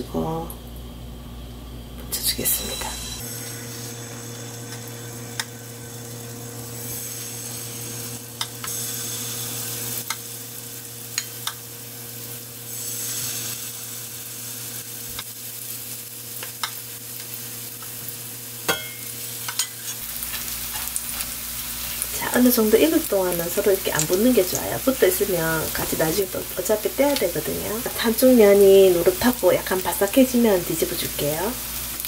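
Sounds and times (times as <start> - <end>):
eggplant frying in oil: 2.2 - 32.0.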